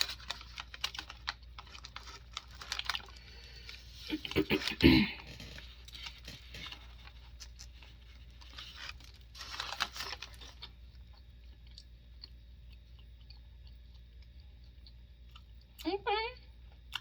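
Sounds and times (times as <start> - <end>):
person chewing food: 0.0 - 15.8, 16.6 - 17.0.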